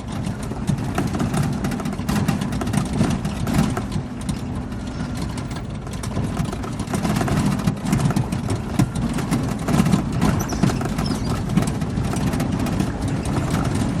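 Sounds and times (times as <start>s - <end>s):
car engine running low: 0.0s - 14.0s
vehicle body rattling over bumps: 0.0s - 14.0s.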